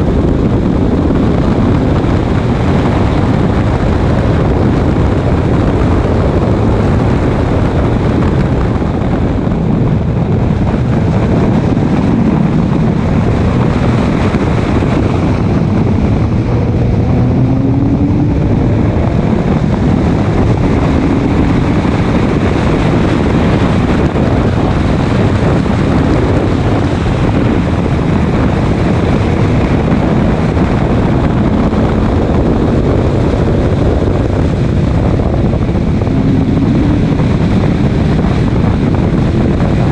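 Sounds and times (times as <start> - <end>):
race car engine: 0.0 - 39.9
wind rush over microphone: 0.0 - 39.9.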